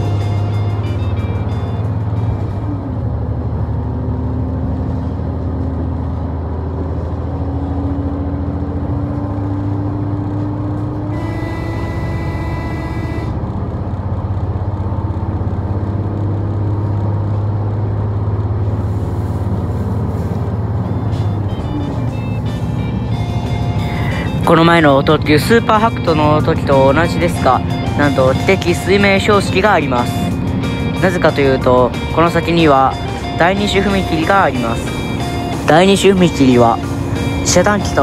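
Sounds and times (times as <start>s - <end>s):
railcar engine hum: 0.0s - 38.0s.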